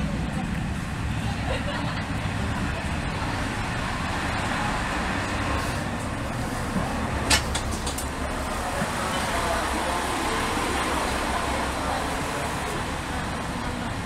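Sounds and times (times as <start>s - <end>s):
diesel railcar idling: 0.0s - 14.0s.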